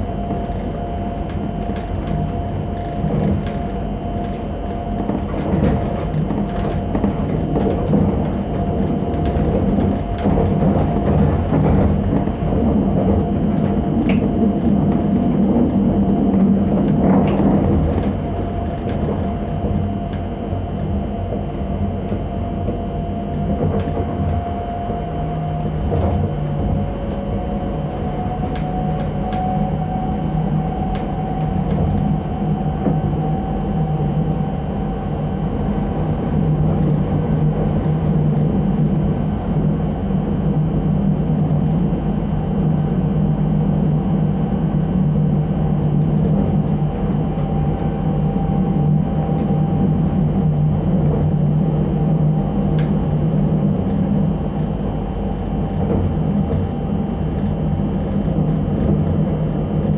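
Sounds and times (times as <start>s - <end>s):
motor whine rising in pitch: 0.0s - 59.9s
train wheels rumbling on rail: 0.0s - 59.9s.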